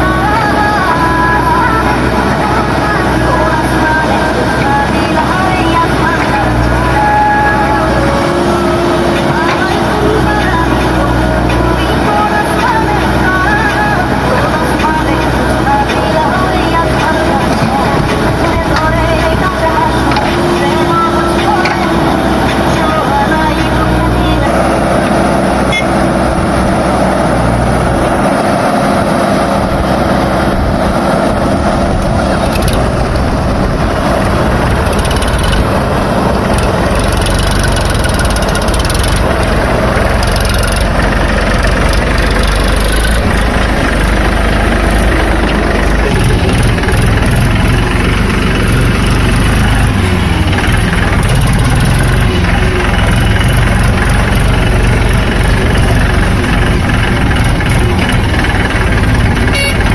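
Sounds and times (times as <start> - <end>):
diesel engines rumbling: 0.0 - 59.9.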